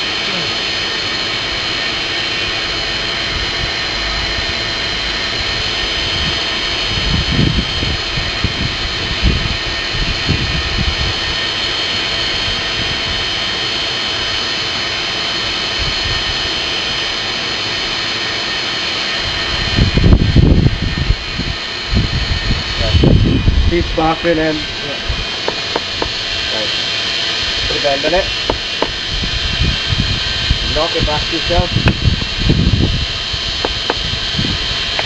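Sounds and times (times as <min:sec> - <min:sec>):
forge air blower whining: 0:00.0 - 0:35.0.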